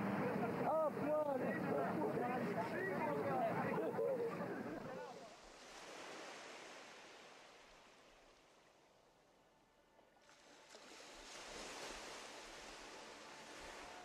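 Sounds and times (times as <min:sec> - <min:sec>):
faint sea waves: 0:00.0 - 0:14.0.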